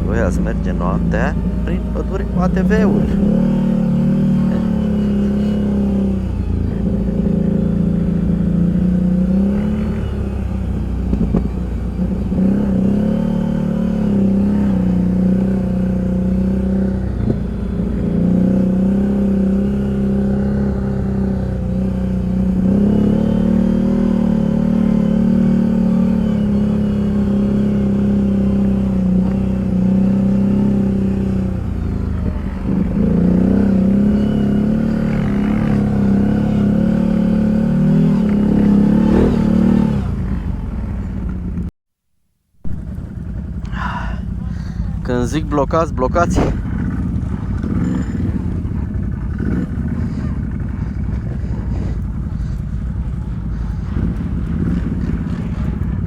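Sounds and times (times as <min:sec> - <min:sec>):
atv engine running: 0:00.0 - 0:41.7, 0:42.6 - 0:56.0.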